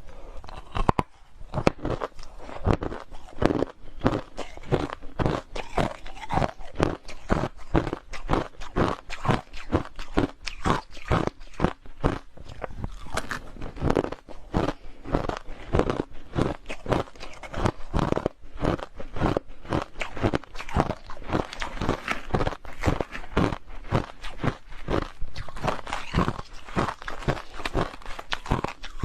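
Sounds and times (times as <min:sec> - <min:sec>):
chewing crushed ice: 0:00.0 - 0:29.0.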